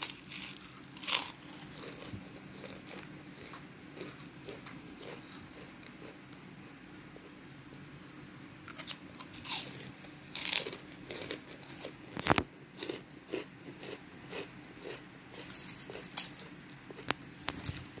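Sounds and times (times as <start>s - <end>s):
crackers crunching: 0.0s - 6.4s, 8.6s - 17.8s.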